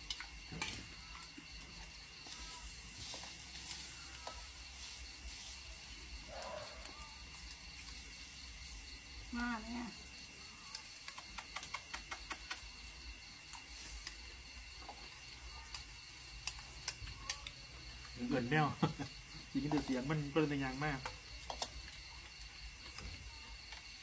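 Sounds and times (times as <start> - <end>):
insects shrilling: 0.0 - 24.0.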